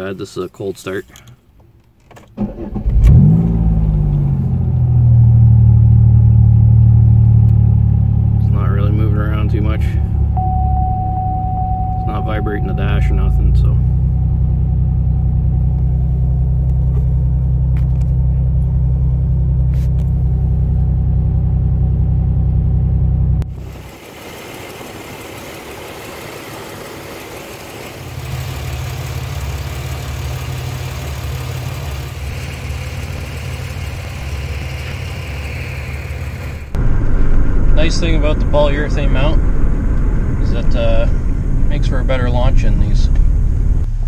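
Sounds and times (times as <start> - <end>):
car engine idling: 2.5 - 44.0.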